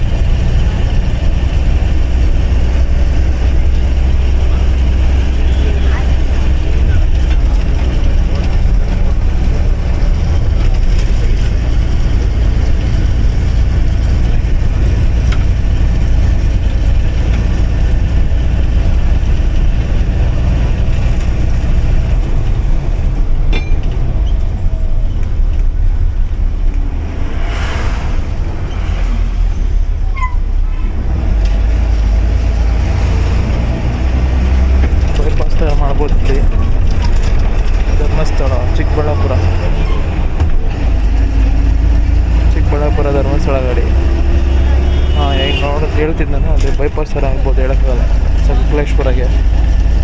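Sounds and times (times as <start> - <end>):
bus diesel engine droning: 0.0 - 50.0.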